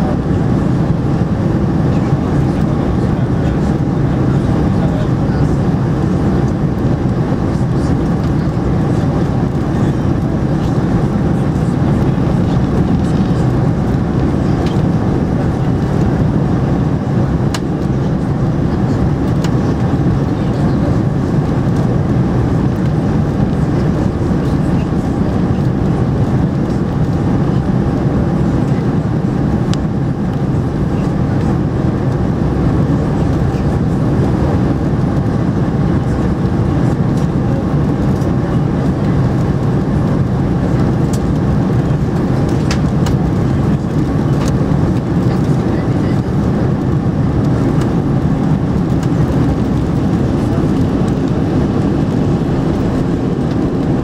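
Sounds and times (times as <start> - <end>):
airplane engine noise: 0.0 - 54.0.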